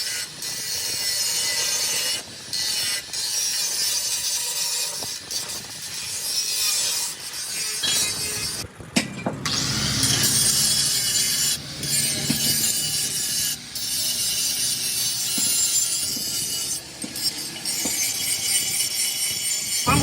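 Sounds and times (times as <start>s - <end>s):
angle grinder grinding steel: 0.0s - 8.6s, 9.5s - 20.0s.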